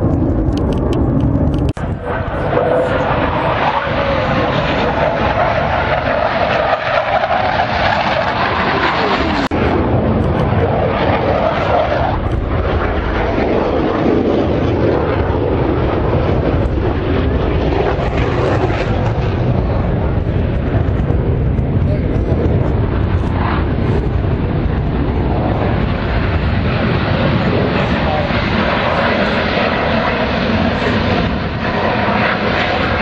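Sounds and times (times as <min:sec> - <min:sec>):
jet engines roaring overhead: 0:00.0 - 0:33.0.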